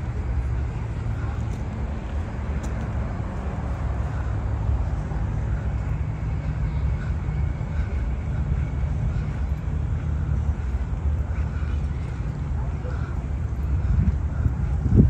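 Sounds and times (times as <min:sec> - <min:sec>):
low even outdoor rumble: 0:00.0 - 0:15.0.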